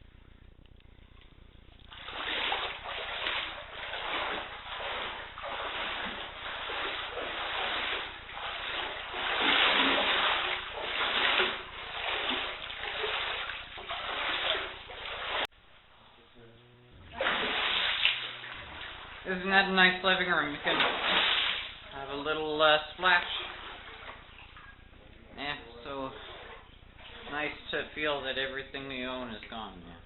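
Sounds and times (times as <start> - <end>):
wading through floodwater splashing: 1.8 - 15.5, 17.0 - 28.5.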